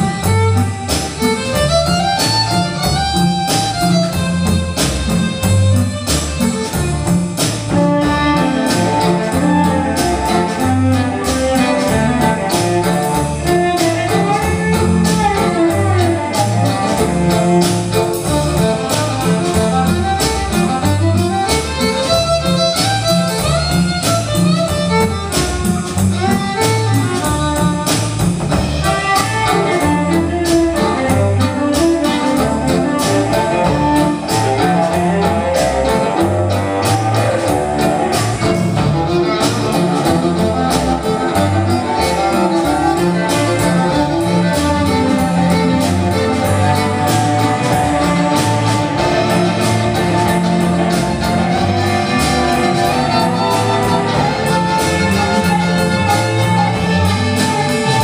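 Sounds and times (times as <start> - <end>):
cello: 0.0 - 58.0
drum kit beat: 0.0 - 58.0
electric guitar: 0.0 - 58.0
violin: 0.0 - 58.0.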